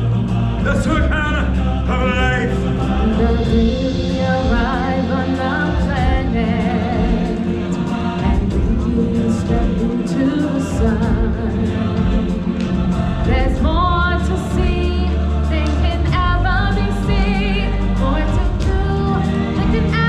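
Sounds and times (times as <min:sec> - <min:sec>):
backing track music: 0:00.0 - 0:20.0
choir singing: 0:00.0 - 0:20.0.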